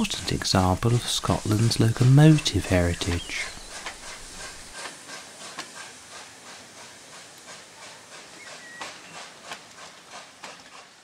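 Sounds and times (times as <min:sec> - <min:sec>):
steam locomotive exhaust chuffs: 0:00.0 - 0:11.0
train running noise: 0:00.0 - 0:11.0.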